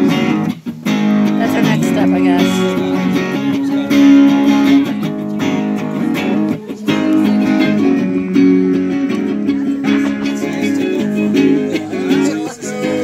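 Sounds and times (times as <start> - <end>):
electric guitars playing: 0.0 - 13.0.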